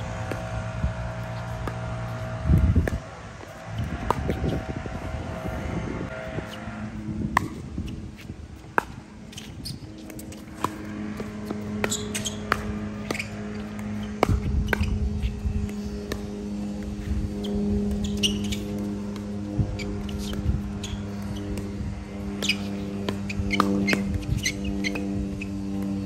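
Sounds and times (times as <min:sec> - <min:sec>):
low mechanical hum: 0:00.0 - 0:26.0
shoe squeaks: 0:00.2 - 0:08.4, 0:09.2 - 0:26.0.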